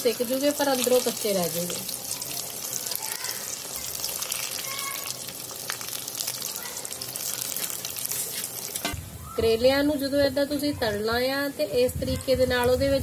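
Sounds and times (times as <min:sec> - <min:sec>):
oil sizzling and crackling: 0:00.0 - 0:13.0.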